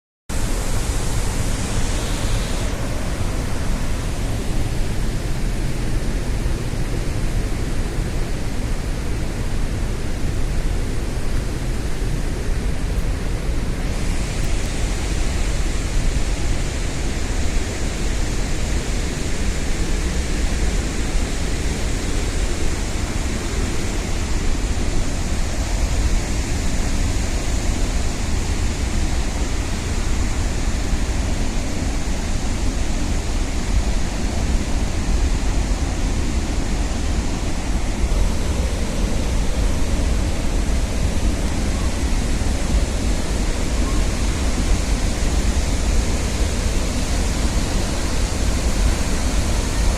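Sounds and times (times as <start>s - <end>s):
waterfall rushing: 0.3s - 49.9s.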